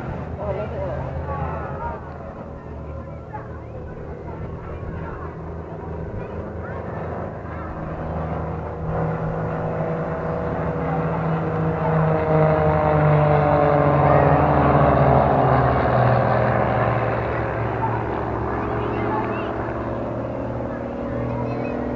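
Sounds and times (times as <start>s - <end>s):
aircraft engine passing overhead: 0.0s - 21.9s.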